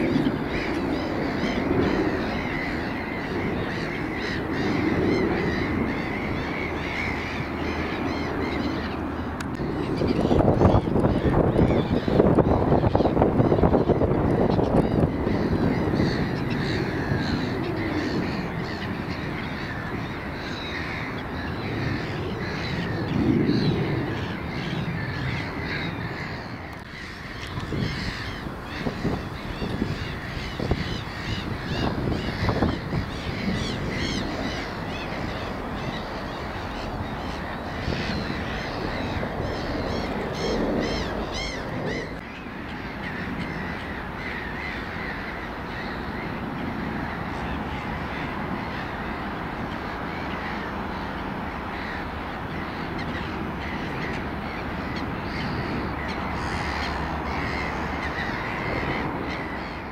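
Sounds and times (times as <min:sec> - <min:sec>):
birds cawing: 0:00.0 - 0:59.9.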